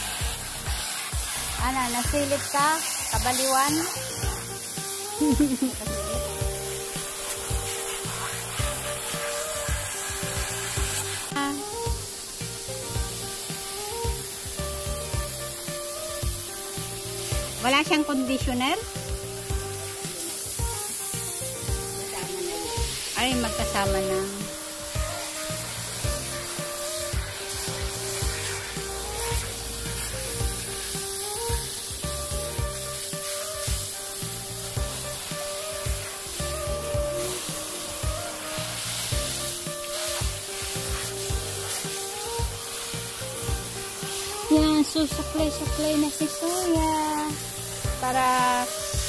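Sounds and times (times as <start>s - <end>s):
background music with steady beat: 0.0s - 49.0s
shower sprayer hissing: 0.0s - 49.0s.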